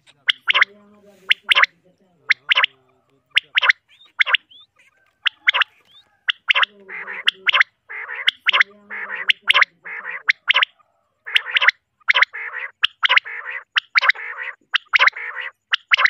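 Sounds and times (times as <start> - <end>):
quail calling: 0.0 - 16.0
rough buzzy calling: 0.0 - 16.0.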